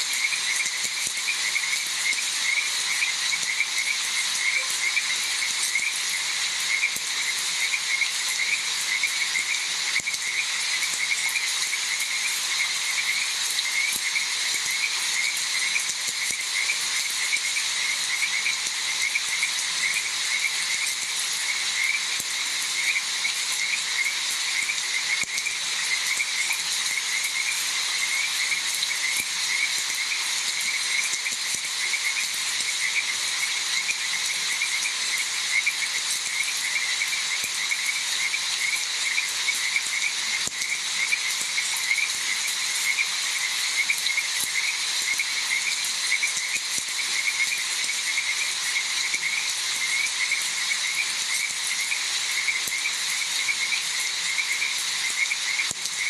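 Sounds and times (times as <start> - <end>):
frogs croaking: 0.0 - 56.0
rain falling: 0.0 - 56.0.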